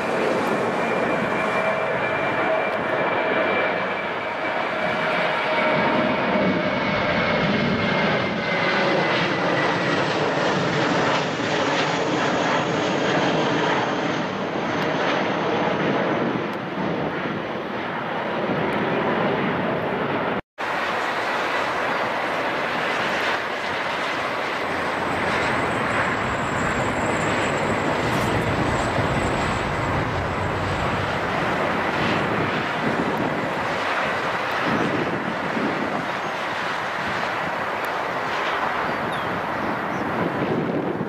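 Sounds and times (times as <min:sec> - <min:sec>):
airplane engines roaring: 0:00.0 - 0:41.0
engine whine: 0:00.0 - 0:41.0.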